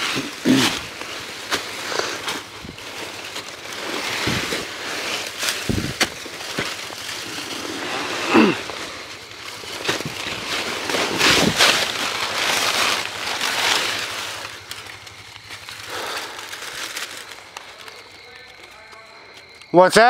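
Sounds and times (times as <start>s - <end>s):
footsteps crunching dry leaves: 0.0s - 19.6s.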